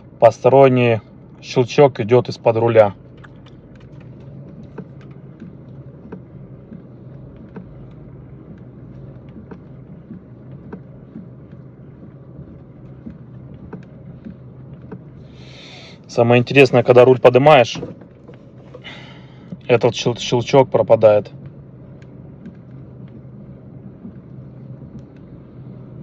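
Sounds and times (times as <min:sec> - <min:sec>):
light clicking under steering wheel: 0:00.0 - 0:26.0
low car hum: 0:00.0 - 0:26.0.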